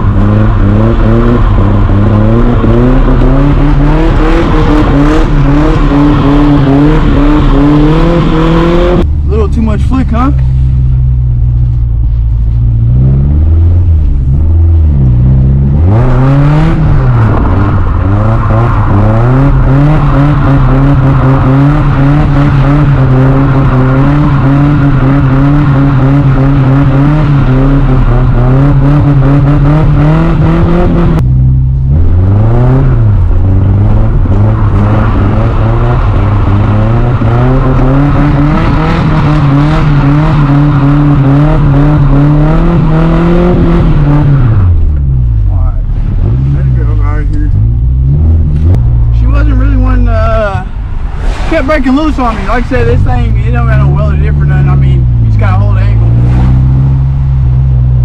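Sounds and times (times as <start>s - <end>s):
car engine revving hard: 0.0s - 9.1s, 12.9s - 58.0s.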